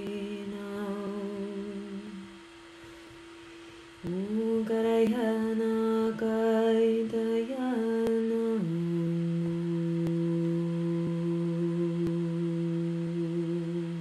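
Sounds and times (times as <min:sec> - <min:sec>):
woman humming: 0:00.0 - 0:02.4, 0:04.0 - 0:14.0.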